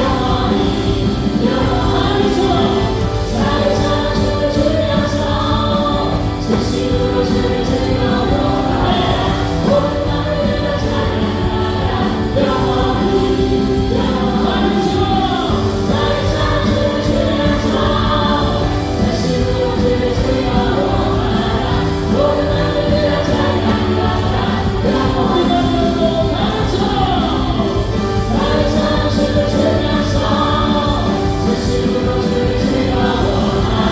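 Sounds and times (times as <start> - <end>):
church praise band playing: 0.0 - 33.9
voices singing together: 0.0 - 33.9.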